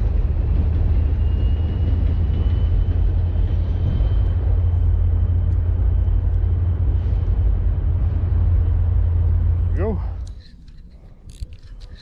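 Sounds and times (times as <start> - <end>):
train passing rumble: 0.0 - 12.0.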